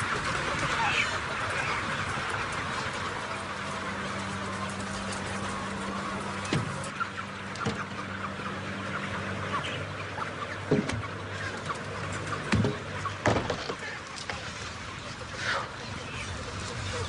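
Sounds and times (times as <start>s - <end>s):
chickens clucking and peeping: 0.0s - 17.0s.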